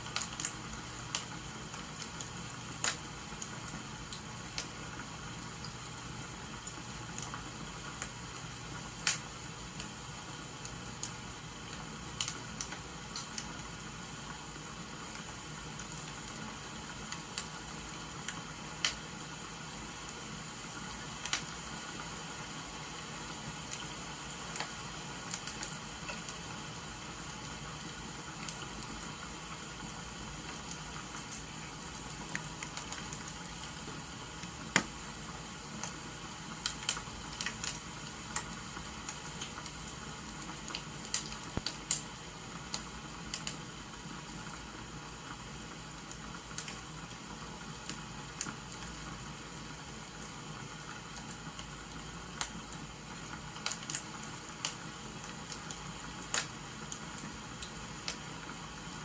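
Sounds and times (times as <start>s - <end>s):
firewood crackling: 0.0s - 5.7s, 6.6s - 44.6s, 46.0s - 58.6s
rain hissing: 0.0s - 59.0s.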